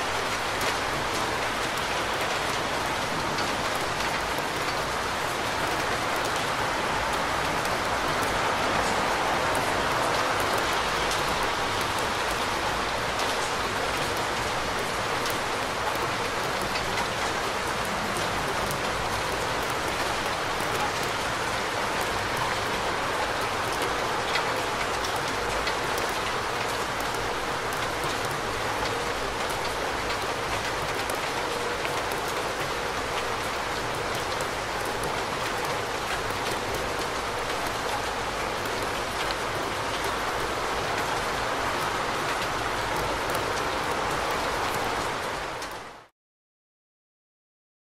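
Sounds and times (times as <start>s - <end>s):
steady rain falling: 0.0s - 46.1s.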